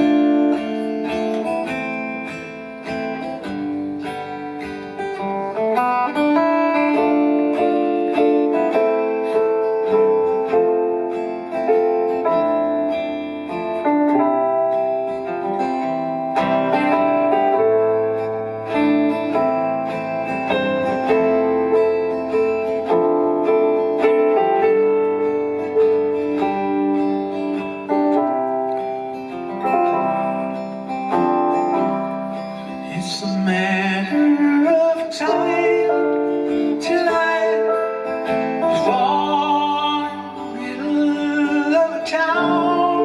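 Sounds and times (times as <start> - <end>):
live band playing: 0.0 - 43.0
ringing guitar chords: 0.0 - 43.0.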